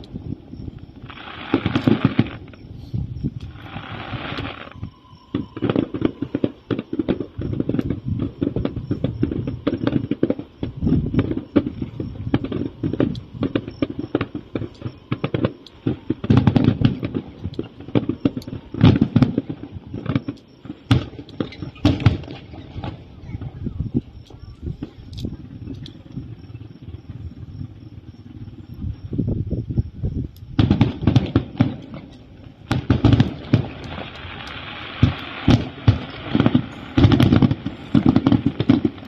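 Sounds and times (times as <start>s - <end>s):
fireworks booms and cracks: 0.0s - 39.0s.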